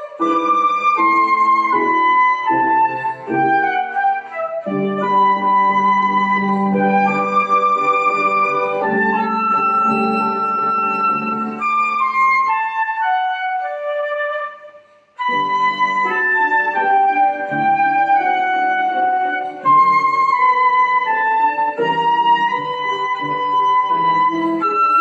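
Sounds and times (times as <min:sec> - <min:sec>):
flute playing a waltz melody: 0:00.0 - 0:25.0
piano accompaniment: 0:00.0 - 0:25.0.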